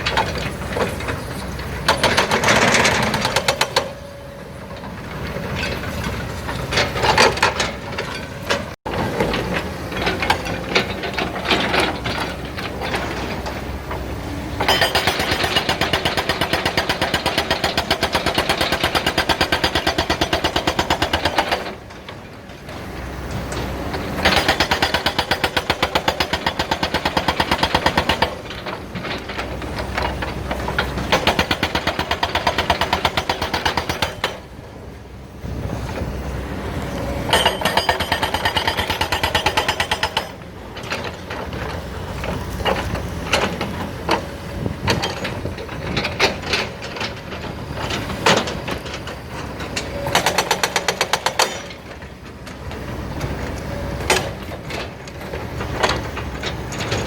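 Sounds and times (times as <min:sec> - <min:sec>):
hydraulic rock breaker hammering rock: 0:00.0 - 0:04.1, 0:04.8 - 0:36.3, 0:37.2 - 0:57.0.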